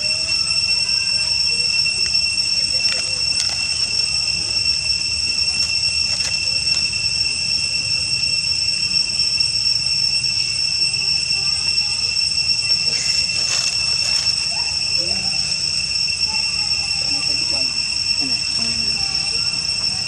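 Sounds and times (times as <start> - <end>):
insects droning in chorus: 0.0 - 20.0.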